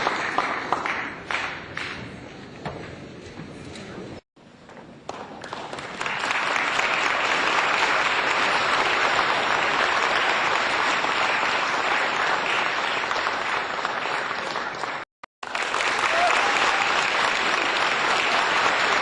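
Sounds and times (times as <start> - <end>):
crowd applause: 0.0 - 2.2, 5.1 - 19.0.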